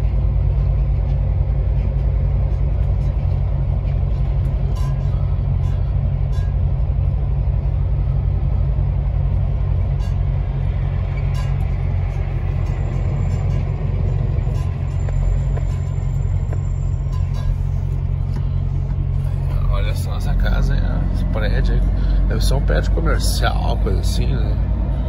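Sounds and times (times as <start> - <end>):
truck engine and road noise: 0.0 - 25.0.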